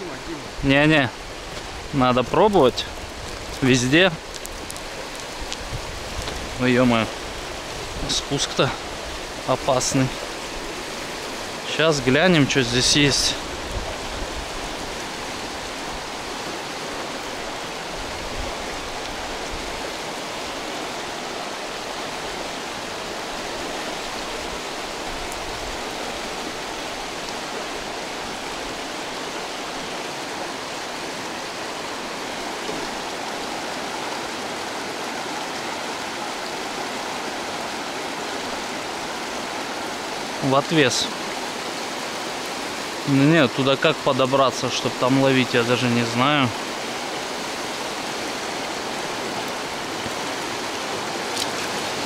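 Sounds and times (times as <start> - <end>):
mountain river rushing: 0.0 - 52.0.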